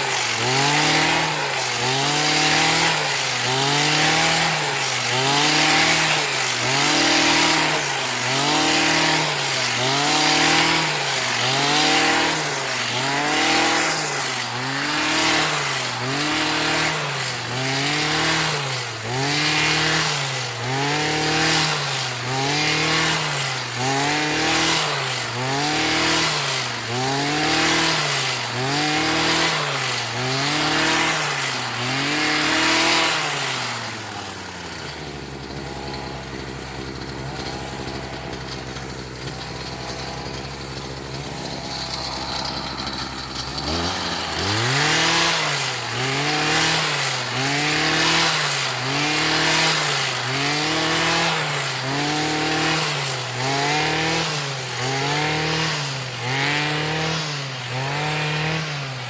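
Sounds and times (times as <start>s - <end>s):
small engine revving and idling: 0.0s - 59.0s.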